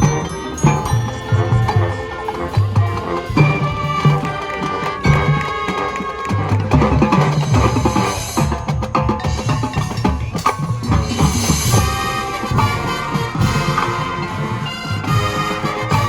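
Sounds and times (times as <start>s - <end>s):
marching band playing: 0.0s - 16.0s
pitched percussion: 0.0s - 16.0s
drum hits: 2.8s - 16.0s.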